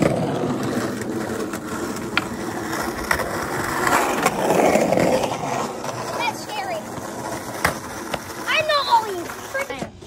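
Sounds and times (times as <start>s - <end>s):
skateboard clicks: 0.0s - 10.0s
skateboard wheels on rough pavement: 0.0s - 10.0s.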